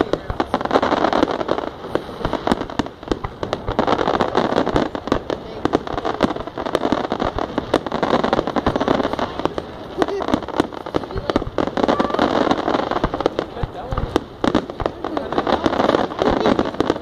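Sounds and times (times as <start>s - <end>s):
fireworks bursts and crackling: 0.0s - 17.0s.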